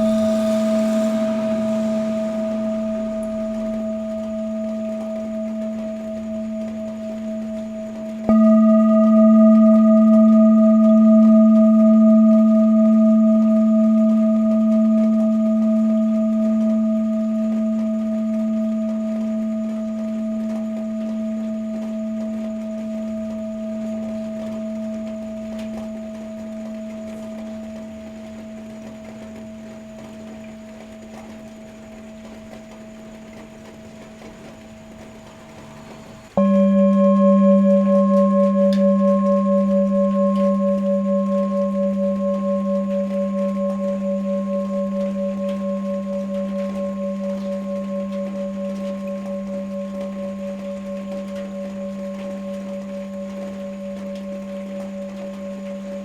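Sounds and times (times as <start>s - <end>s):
singing bowl ringing: 0.0s - 35.2s, 36.2s - 56.0s
lower-pitched bowl struck: 0.0s - 35.3s, 36.2s - 56.0s.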